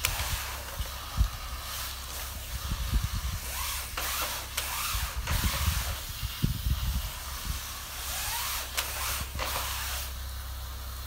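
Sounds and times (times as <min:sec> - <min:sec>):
brushes scrubbing a screen: 0:00.0 - 0:10.3
water jets hissing: 0:00.0 - 0:11.0.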